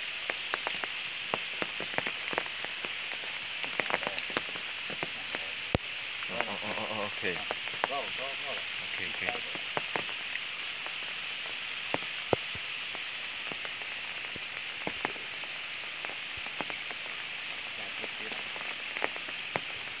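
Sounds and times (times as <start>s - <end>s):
rain hissing: 0.0s - 20.0s
sharp drips: 0.0s - 20.0s.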